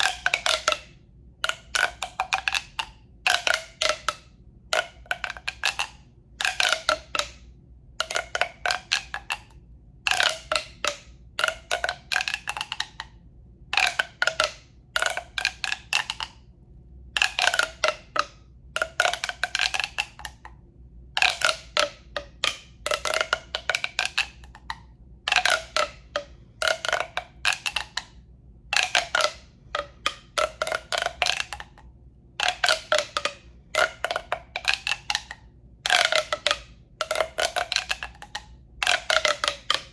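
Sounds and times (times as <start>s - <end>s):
hollow tube tapped: 0.0s - 16.5s, 17.1s - 20.6s, 21.2s - 39.9s.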